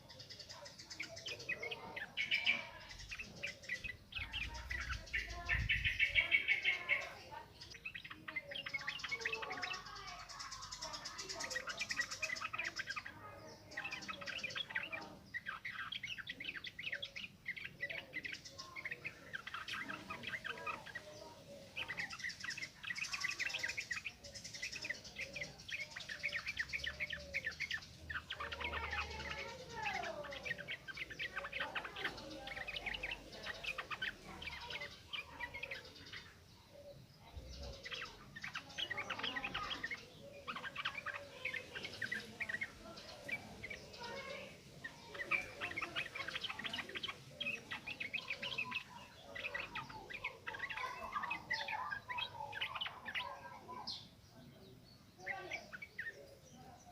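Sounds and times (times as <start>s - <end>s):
bird chirping and warbling: 0.0s - 56.9s.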